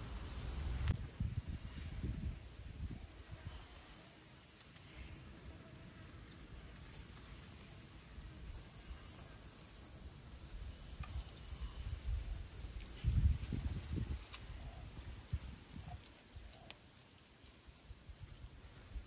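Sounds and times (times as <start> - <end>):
insect chirping in trills: 0.0 - 1.0, 1.7 - 19.0.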